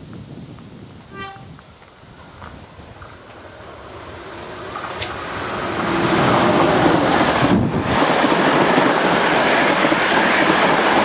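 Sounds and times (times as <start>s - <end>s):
wind buffeting microphone: 0.0s - 11.0s
train passing at speed: 1.0s - 11.0s.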